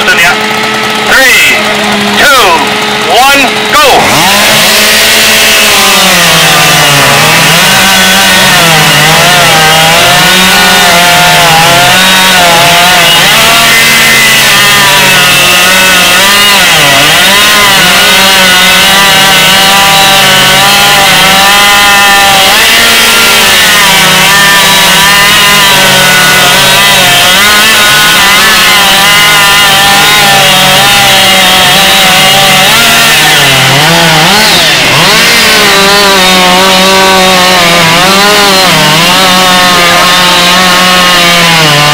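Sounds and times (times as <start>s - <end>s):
chainsaw cutting through log: 0.0s - 41.9s.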